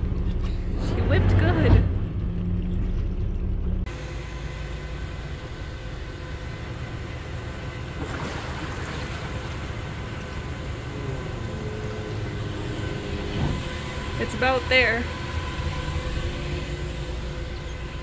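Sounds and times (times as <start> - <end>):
boat engine running: 0.0 - 18.0
water noise: 0.0 - 18.0
wind: 0.0 - 18.0.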